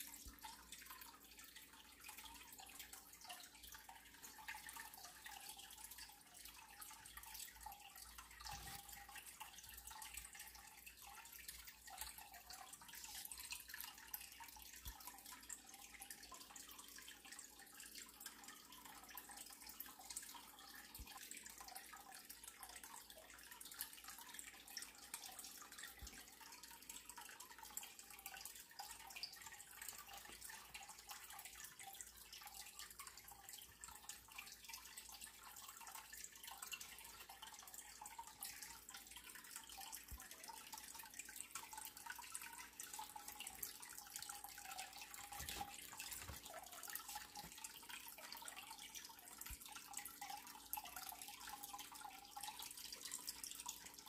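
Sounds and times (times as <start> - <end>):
soft ticks and crackles: 0.0 - 54.0.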